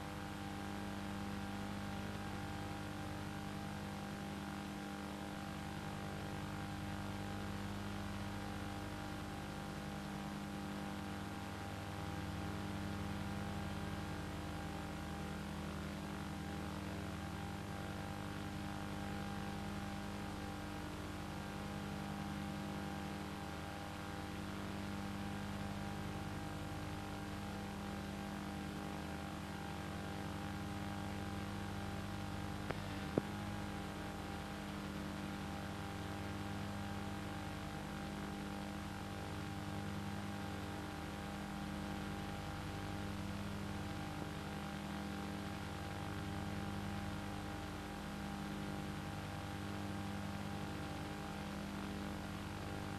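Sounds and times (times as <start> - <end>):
steady electrical hum: 0.0 - 52.9.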